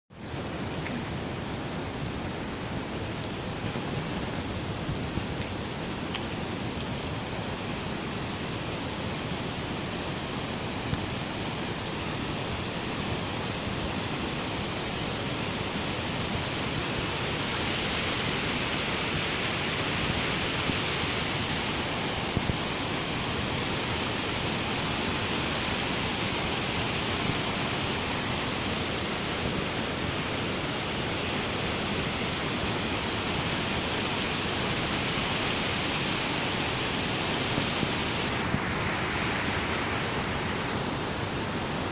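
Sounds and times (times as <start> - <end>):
waterfall rushing: 0.2 - 41.9.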